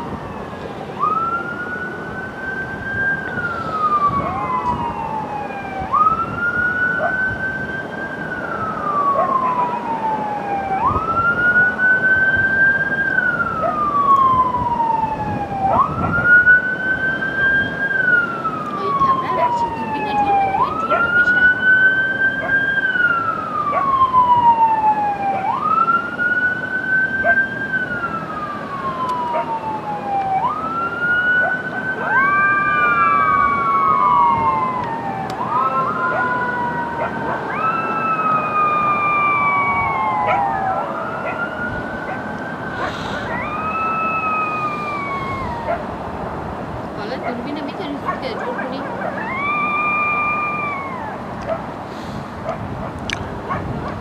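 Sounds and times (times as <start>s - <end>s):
emergency sirens wailing: 0.0s - 54.0s.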